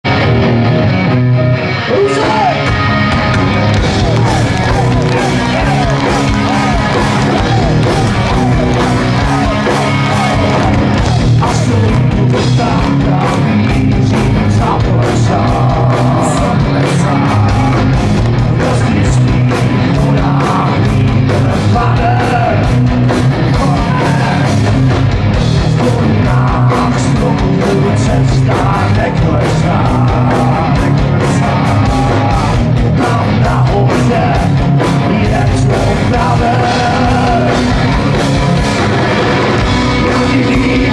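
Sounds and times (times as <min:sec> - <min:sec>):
electric guitars: 0:00.0 - 0:40.9
driving drum beat: 0:02.0 - 0:40.9.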